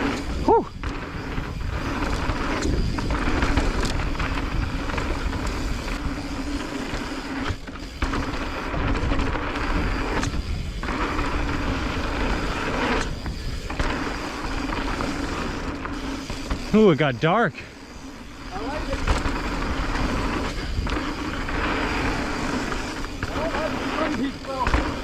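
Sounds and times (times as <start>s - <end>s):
bike tyres rumbling over dirt: 0.0s - 25.0s.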